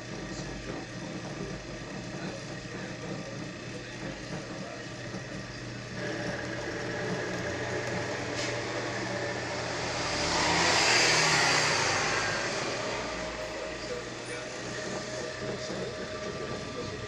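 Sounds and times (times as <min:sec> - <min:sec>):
drill bit boring into wood: 0:00.0 - 0:17.0
drill press motor humming: 0:00.0 - 0:17.0.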